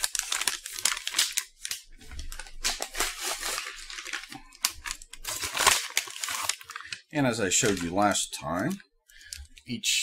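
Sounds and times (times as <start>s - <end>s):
paper box crinkling and tearing: 0.0s - 8.8s.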